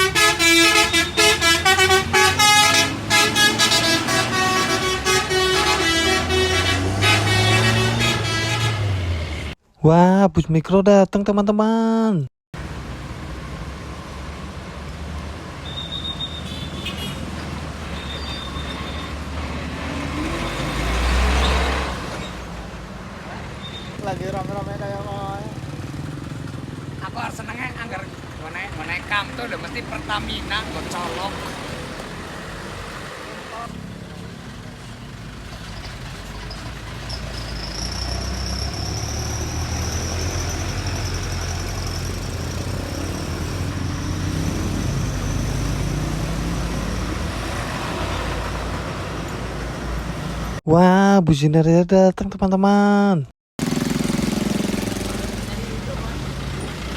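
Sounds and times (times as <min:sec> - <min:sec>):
bus engine rumbling: 0:00.0 - 0:09.6, 0:12.6 - 0:50.9, 0:53.6 - 0:56.9
minibus driving past: 0:00.0 - 0:09.6, 0:12.6 - 0:50.6, 0:53.6 - 0:56.9.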